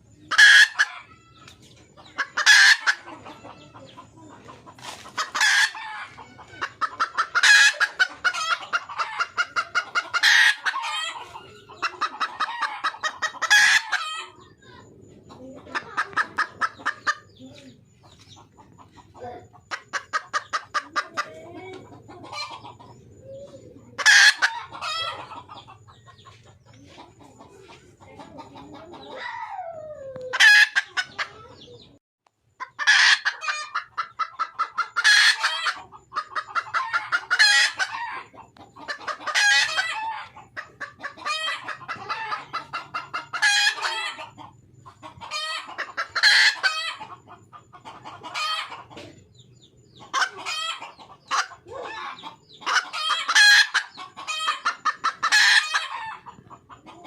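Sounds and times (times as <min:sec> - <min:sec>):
junglefowl hen cackling calls: 0:00.2 - 0:32.0, 0:32.6 - 0:57.0.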